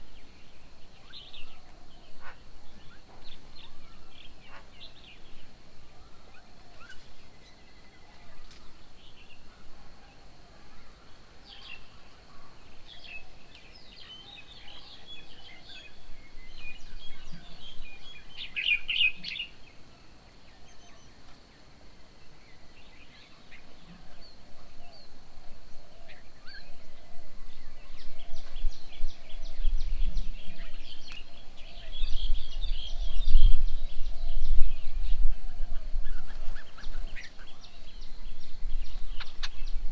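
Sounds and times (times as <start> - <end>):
birds chirping and calling: 0.9 - 9.7, 10.9 - 21.4, 22.3 - 39.9.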